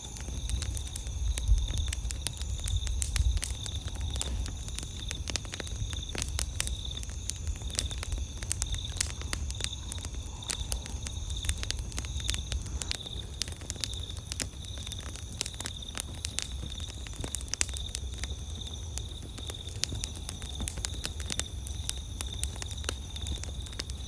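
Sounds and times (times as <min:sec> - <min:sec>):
campfire crackling and popping: 0:00.0 - 0:24.0
insects trilling: 0:00.0 - 0:24.0.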